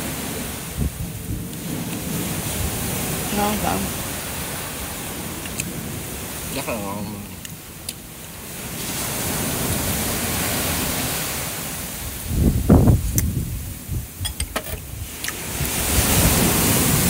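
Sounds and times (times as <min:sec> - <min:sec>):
wind on microphone: 0:00.0 - 0:06.6, 0:08.4 - 0:17.0
sea surf: 0:00.0 - 0:17.0.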